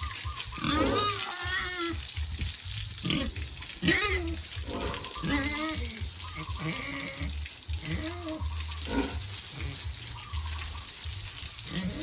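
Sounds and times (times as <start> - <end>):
pigs grunting and squealing: 0.0 - 11.0, 11.6 - 12.0
running water: 0.0 - 12.0.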